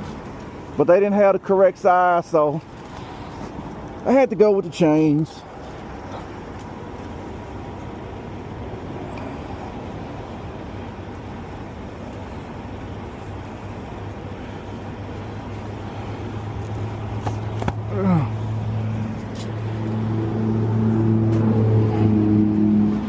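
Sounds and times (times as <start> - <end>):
truck and traffic noise: 0.0 - 23.0.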